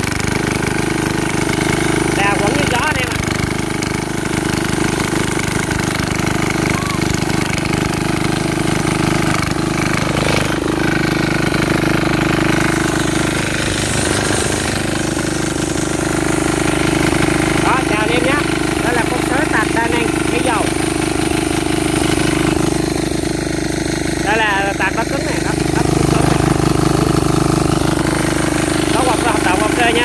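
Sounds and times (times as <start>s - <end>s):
tiller diesel engine running: 0.0s - 30.0s
tines churning soil: 0.0s - 30.0s.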